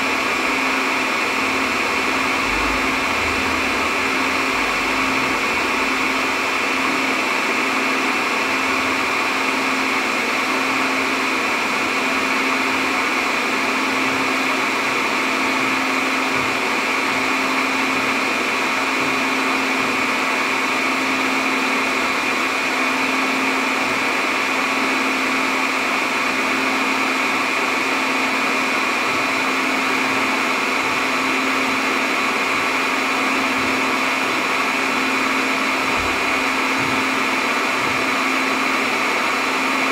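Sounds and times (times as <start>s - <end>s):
server cooling fans whirring: 0.0s - 39.9s.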